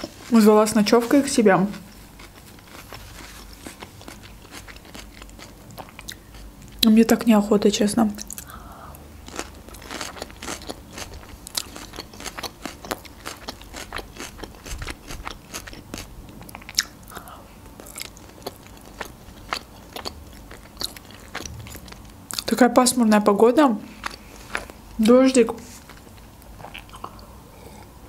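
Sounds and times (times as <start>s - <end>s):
crunchy salad chewing: 0.0s - 6.8s, 9.2s - 22.5s, 23.9s - 27.9s.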